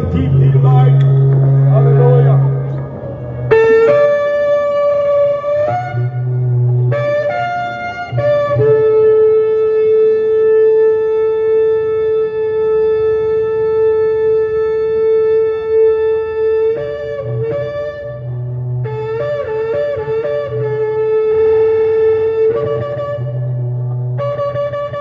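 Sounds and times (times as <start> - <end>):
shofar blowing: 0.0 - 25.0.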